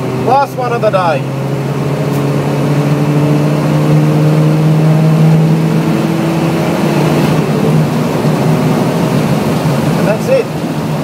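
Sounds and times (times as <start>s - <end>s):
car engine accelerating: 0.0s - 11.0s
wind and tyre noise: 0.0s - 11.0s.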